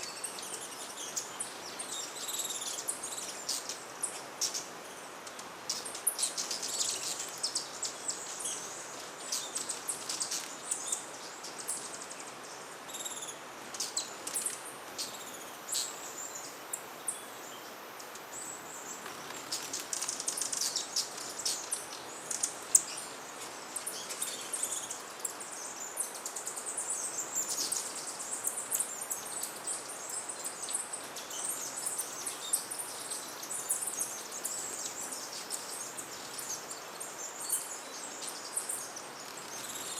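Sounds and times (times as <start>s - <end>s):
hummingbirds chipping and twittering: 0.0s - 39.9s
steady background hiss: 0.0s - 39.9s.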